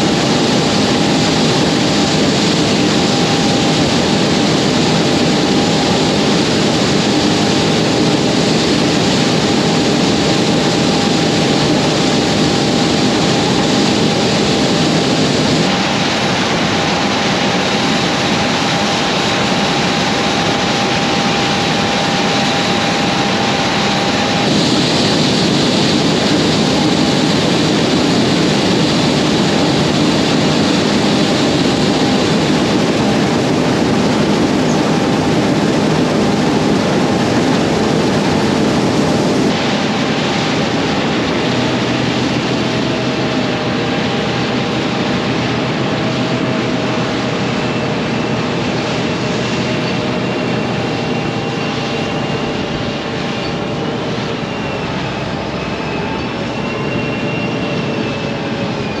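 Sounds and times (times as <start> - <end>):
constant whine: 0.0 - 59.0.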